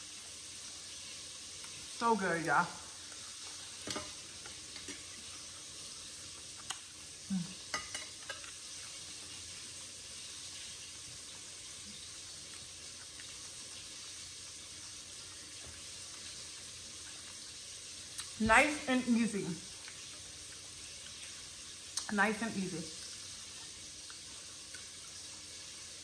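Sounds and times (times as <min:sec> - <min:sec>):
chicken frying in hot oil: 0:00.0 - 0:26.0.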